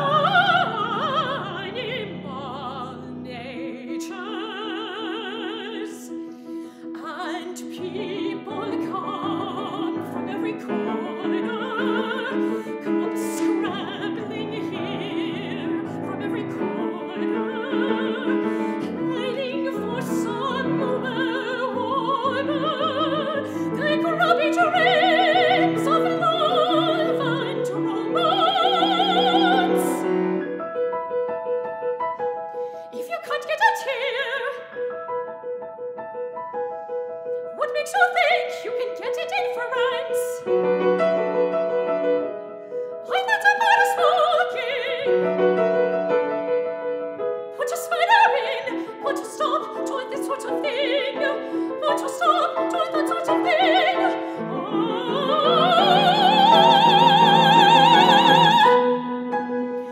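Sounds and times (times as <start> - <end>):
soprano singing: 0.0 - 32.0, 32.6 - 35.4, 36.8 - 59.9
piano accompaniment: 0.0 - 59.9.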